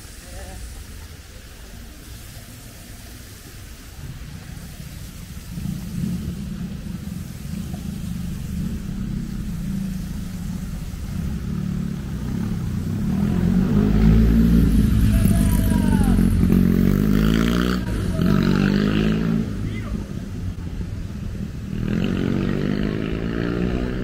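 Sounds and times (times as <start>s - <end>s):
passing vehicle engine rumble: 0.0s - 24.0s.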